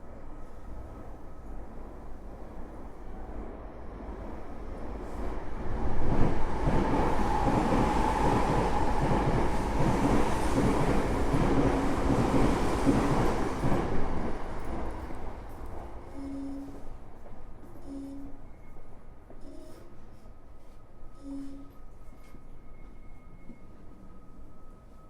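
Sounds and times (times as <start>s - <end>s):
train wheel and rail noise: 0.0s - 25.0s.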